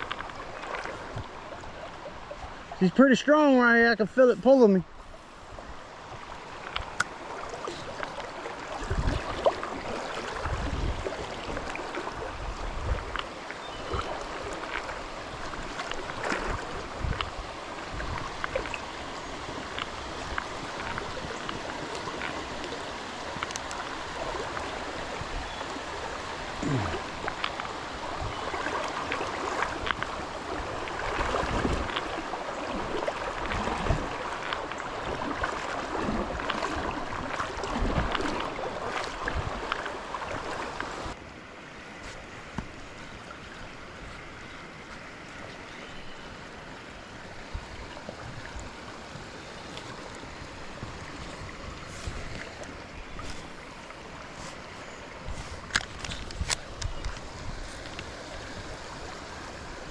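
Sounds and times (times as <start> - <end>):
creek water rushing and splashing: 0.0 - 59.9.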